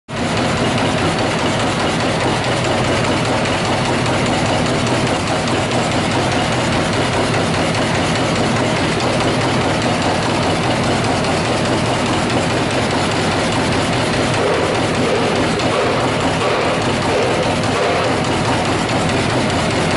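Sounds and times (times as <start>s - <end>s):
punching machine clatter: 0.1s - 19.9s
machine hum: 0.2s - 19.9s.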